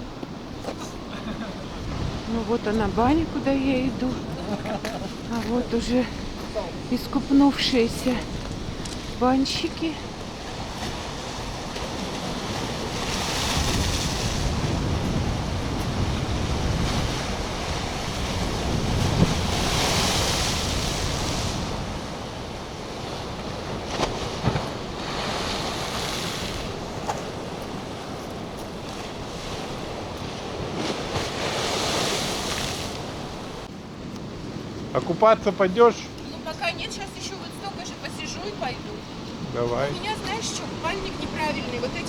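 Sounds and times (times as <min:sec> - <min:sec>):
waves breaking on shore: 0:00.0 - 0:42.0
wind buffeting microphone: 0:00.0 - 0:42.0.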